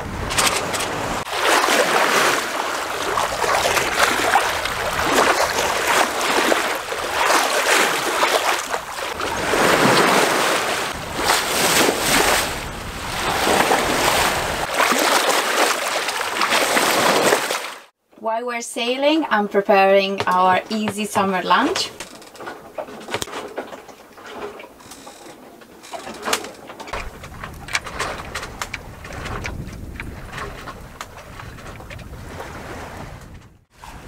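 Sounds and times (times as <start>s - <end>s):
water splashing along boat hull: 0.0s - 18.0s, 20.2s - 34.0s.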